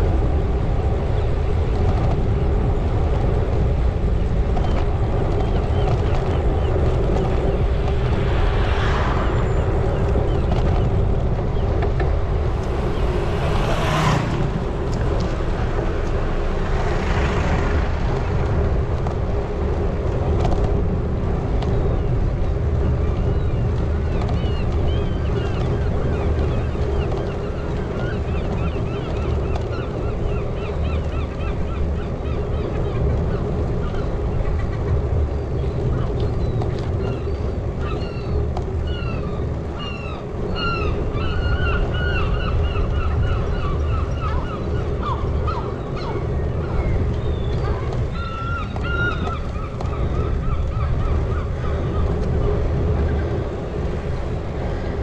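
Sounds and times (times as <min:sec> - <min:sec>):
wind and tyres rumble: 0:00.0 - 0:55.0.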